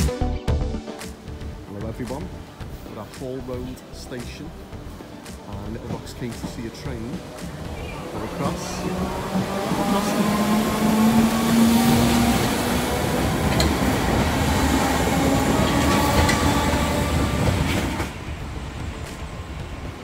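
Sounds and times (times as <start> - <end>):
train wheels rumbling on rail: 1.6 - 20.0.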